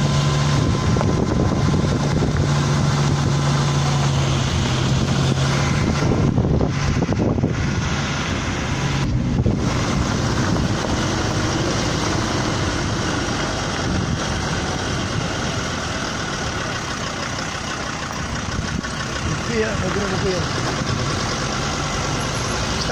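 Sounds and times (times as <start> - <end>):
engines running at low speed: 0.0 - 22.9
road noise: 0.0 - 22.9.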